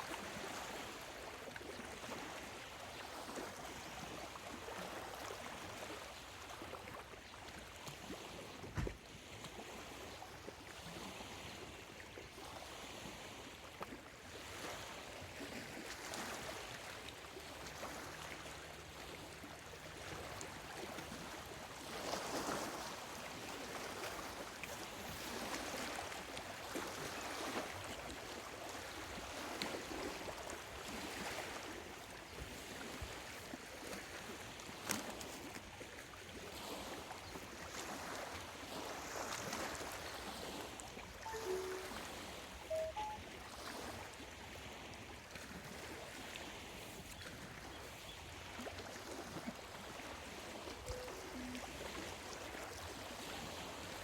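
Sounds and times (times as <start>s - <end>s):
waves lapping at shore: 0.0s - 54.0s.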